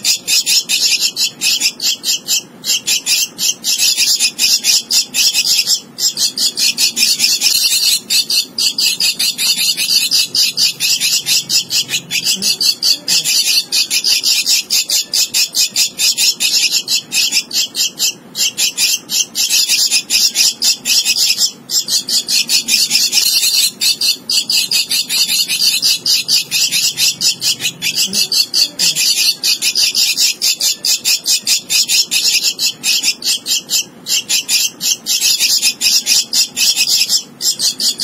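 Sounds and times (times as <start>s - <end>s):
bird chick begging calls: 0.0s - 38.0s.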